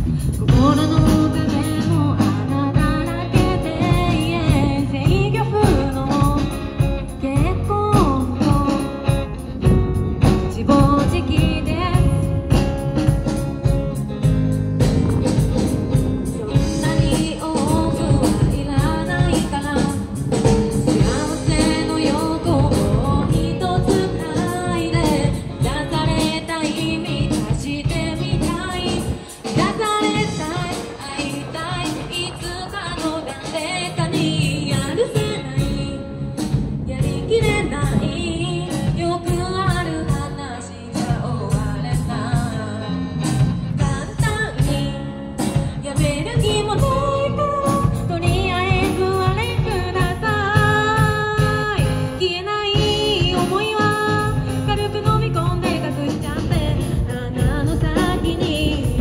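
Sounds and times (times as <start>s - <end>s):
woman singing: 0.0s - 14.2s, 15.4s - 59.0s
live rock-pop band: 0.0s - 59.0s.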